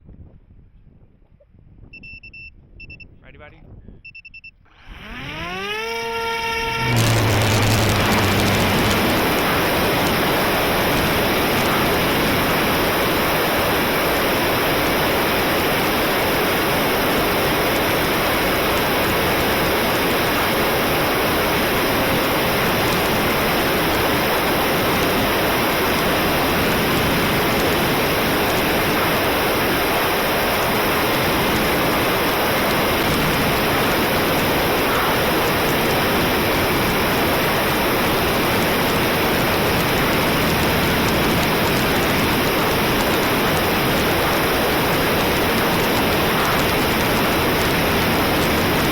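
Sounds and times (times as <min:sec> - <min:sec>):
steady rushing hiss: 0:06.7 - 0:48.9.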